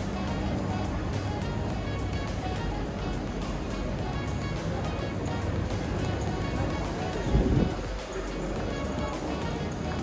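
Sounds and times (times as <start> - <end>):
music with a steady beat: 0.0 - 10.0.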